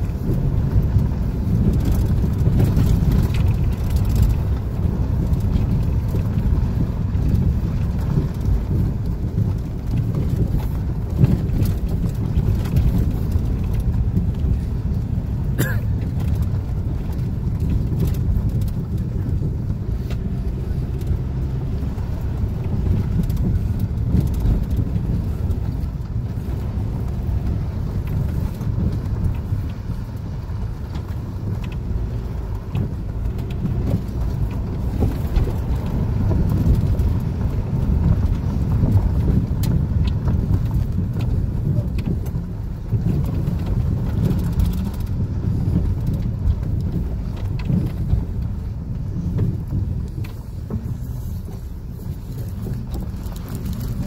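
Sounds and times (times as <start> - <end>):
tyres rumbling on dirt road: 0.0 - 54.0.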